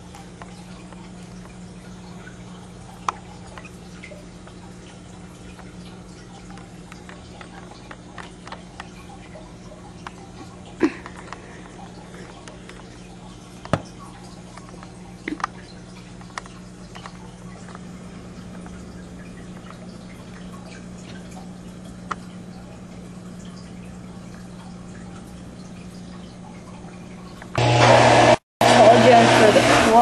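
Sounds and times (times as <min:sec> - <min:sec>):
sharp water drips: 0:00.0 - 0:27.6
water trickling: 0:00.0 - 0:27.6
aquarium low hum: 0:00.0 - 0:27.7, 0:28.6 - 0:30.0.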